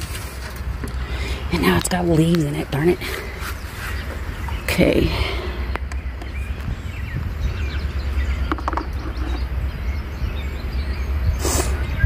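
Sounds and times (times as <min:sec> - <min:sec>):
birds chirping faintly: 0:00.0 - 0:12.0
wind rumble on microphone: 0:00.0 - 0:12.0.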